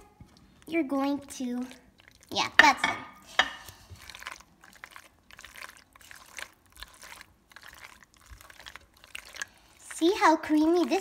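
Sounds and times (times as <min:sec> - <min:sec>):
spatula stirring pasta in pot: 0:00.3 - 0:11.0.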